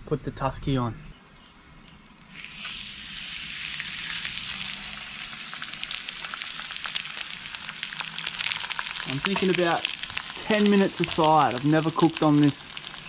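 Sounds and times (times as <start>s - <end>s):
fish sizzling on hot plate: 1.9s - 13.0s.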